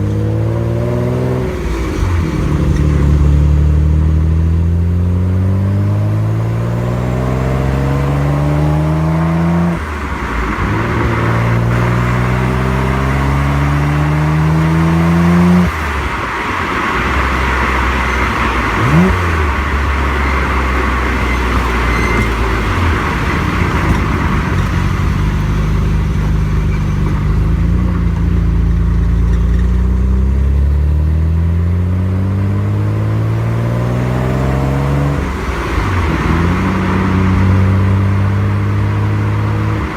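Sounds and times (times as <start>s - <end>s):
car exhaust revving through gears: 0.0s - 39.9s
road and wind hiss: 0.0s - 39.9s.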